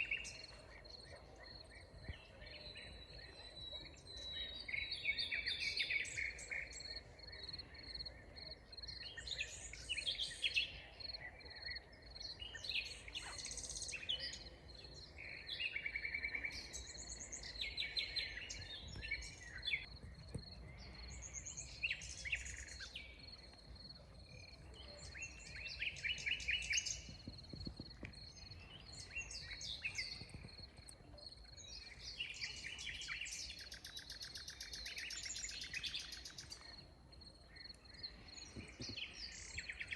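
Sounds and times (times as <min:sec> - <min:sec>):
songbirds singing and trilling: 0:00.0 - 0:39.9.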